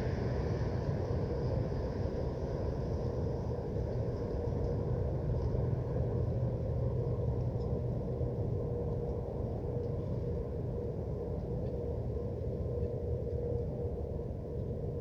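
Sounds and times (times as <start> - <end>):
faint steady hum tone: 0.0 - 15.0.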